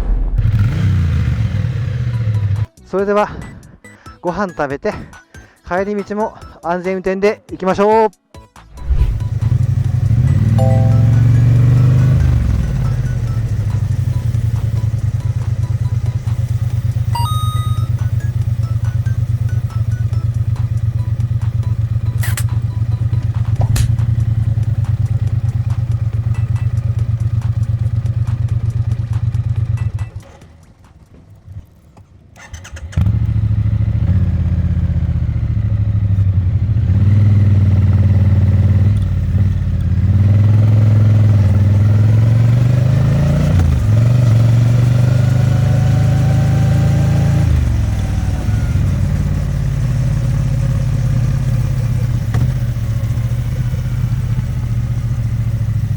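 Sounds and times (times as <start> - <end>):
motorcycle engine idling and revving: 0.0 - 2.8, 8.7 - 55.9.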